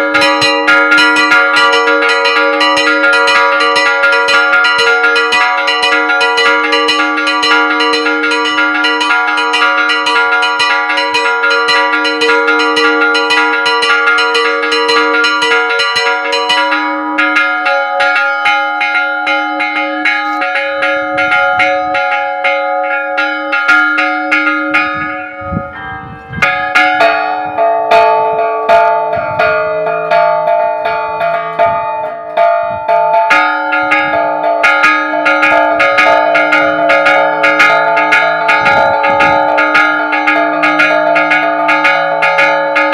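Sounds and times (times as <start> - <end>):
church bells chimed by hand: 0.0 - 42.9.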